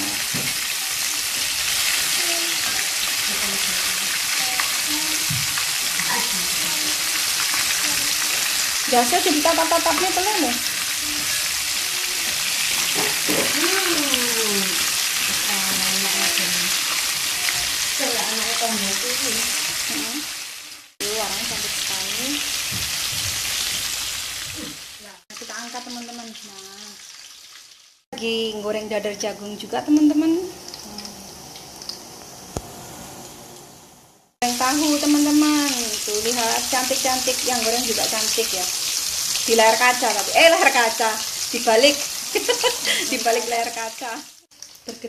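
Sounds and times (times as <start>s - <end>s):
chicken frying in hot oil: 0.0s - 28.0s, 28.8s - 32.8s, 34.4s - 45.0s.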